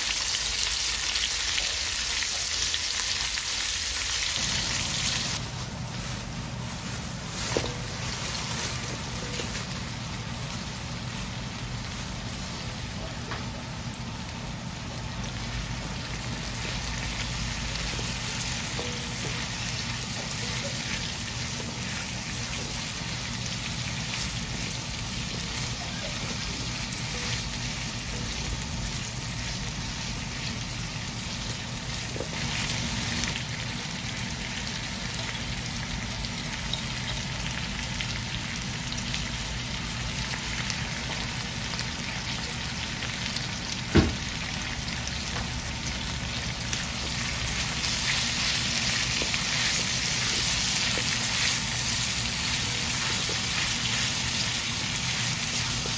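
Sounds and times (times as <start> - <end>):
vegetables sizzling in a wok: 0.0 - 55.9.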